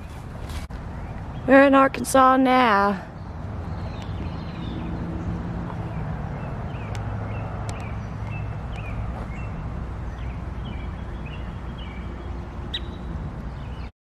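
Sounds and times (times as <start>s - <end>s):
low outdoor rumble: 0.0s - 13.9s
small birds chirping: 0.0s - 13.9s.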